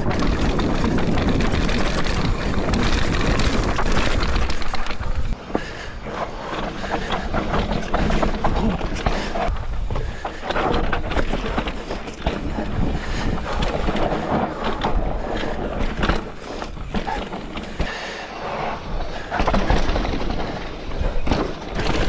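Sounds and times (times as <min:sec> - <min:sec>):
bike rattling over bumps: 0:00.0 - 0:22.0
bike tyres rolling over dirt: 0:00.0 - 0:22.0.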